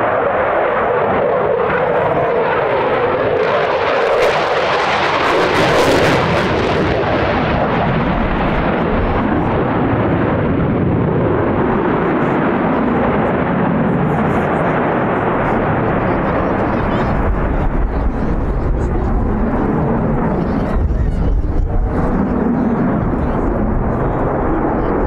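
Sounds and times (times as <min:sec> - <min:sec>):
fighter jet roar: 0:00.0 - 0:25.0.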